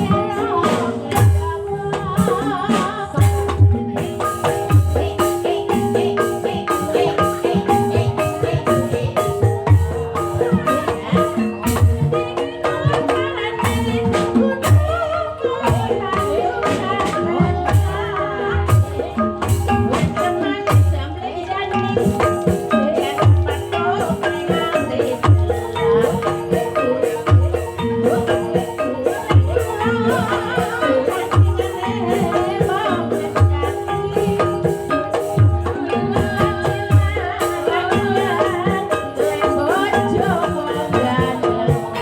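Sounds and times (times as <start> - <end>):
struck mallet instruments: 0.0 - 42.0
wavering vocal line: 0.0 - 42.0.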